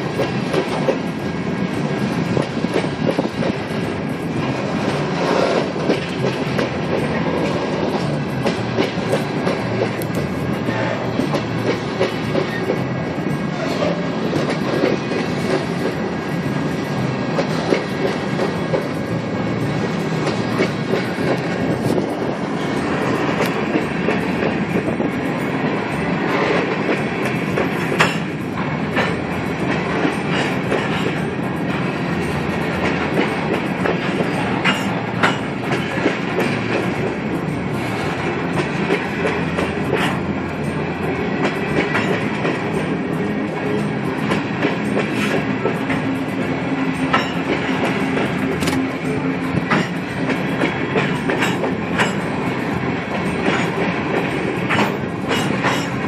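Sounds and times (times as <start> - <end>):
train wheels clacking on rails: 0.0 - 56.0.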